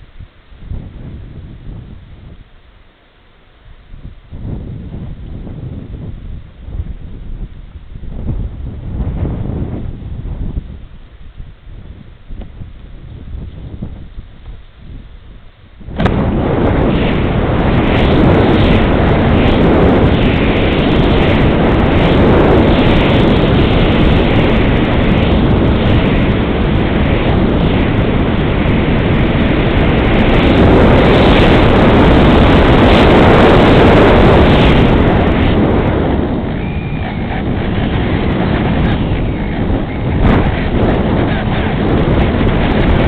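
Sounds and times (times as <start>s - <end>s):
rush of air buffeting microphone: 0.0s - 43.0s.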